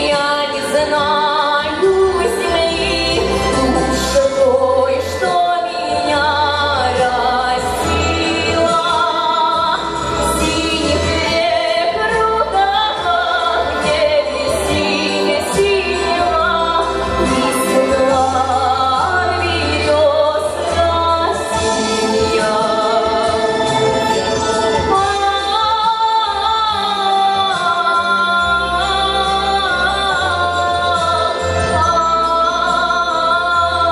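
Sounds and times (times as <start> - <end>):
woman singing with vibrato: 0.0 - 33.9
backing track with bass line: 6.0 - 33.9.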